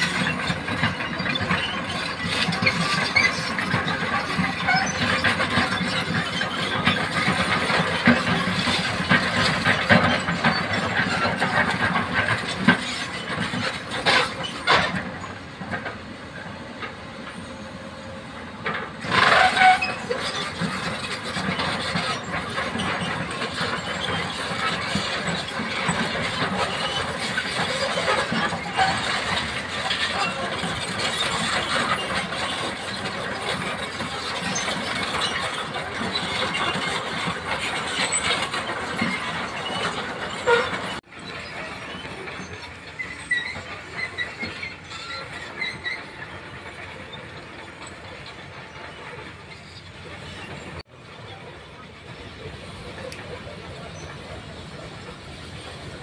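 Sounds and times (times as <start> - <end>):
excavator diesel engine running: 0.0 - 56.0
steel crawler tracks clanking: 0.0 - 56.0.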